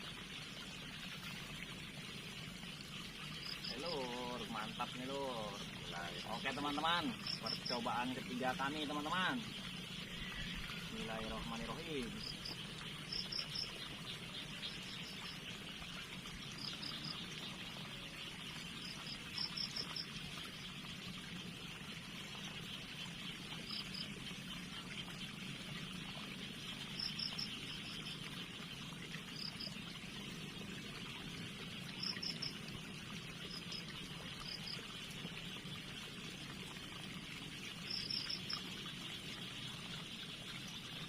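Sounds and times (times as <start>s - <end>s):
river water trickling: 0.0s - 41.0s.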